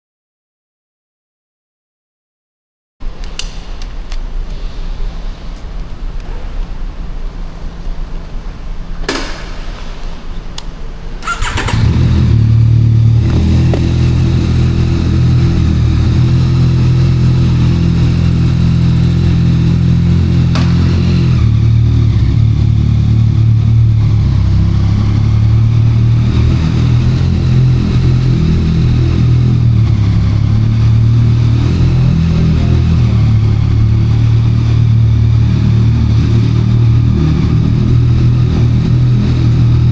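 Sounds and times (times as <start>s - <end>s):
motorcycle engine idling: 6.0s - 39.9s.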